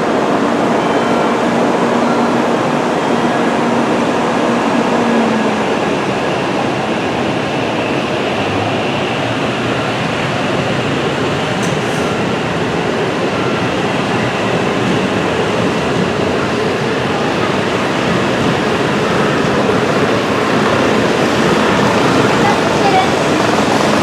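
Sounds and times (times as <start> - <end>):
train rushing past: 0.0 - 24.0.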